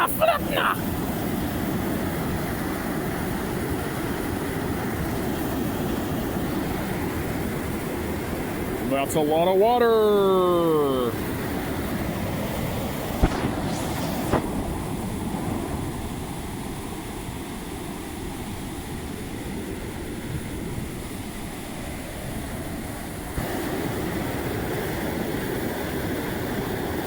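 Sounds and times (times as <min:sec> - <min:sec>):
water rushing from dam: 0:00.0 - 0:27.0.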